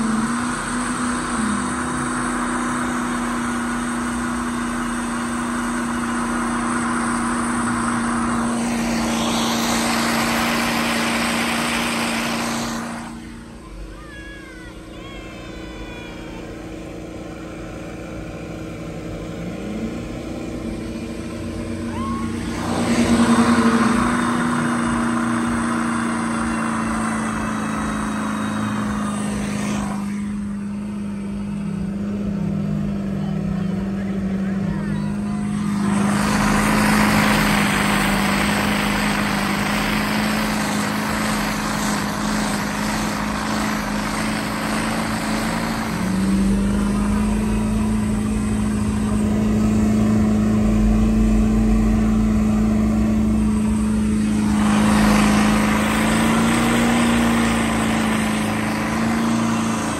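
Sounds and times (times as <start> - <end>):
spinning tyres throwing mud: 0.0 - 13.5, 17.0 - 31.6, 35.1 - 59.9
truck engine at high revs: 0.0 - 59.9.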